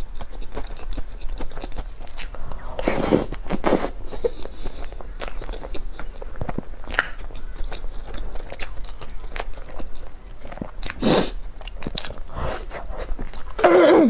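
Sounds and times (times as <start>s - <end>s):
person chewing crunchy food: 0.0s - 13.8s.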